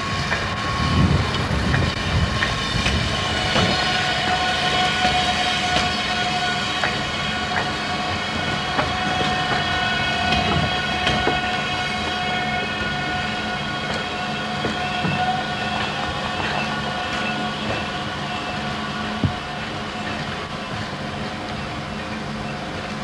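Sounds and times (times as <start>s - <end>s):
train electrical hum and whine: 0.0s - 23.0s.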